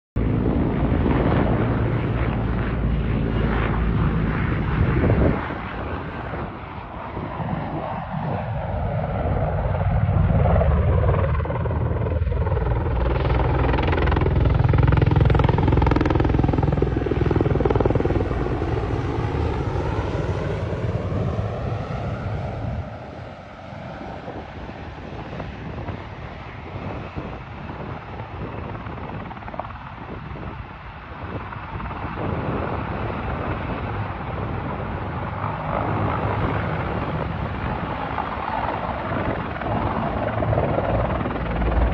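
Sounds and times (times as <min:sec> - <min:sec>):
helicopter turbine whining: 0:00.2 - 0:41.9.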